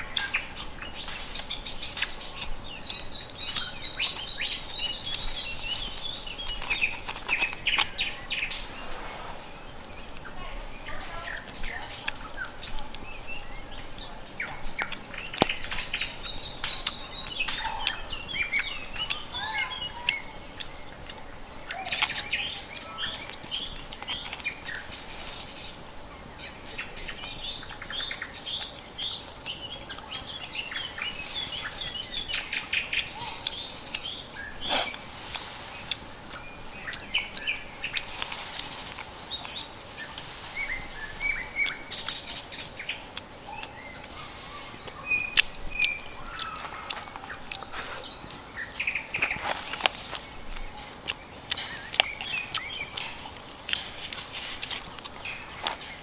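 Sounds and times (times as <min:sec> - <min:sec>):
outdoor background noise: 0:00.0 - 0:56.0
small birds chirping: 0:00.0 - 0:56.0.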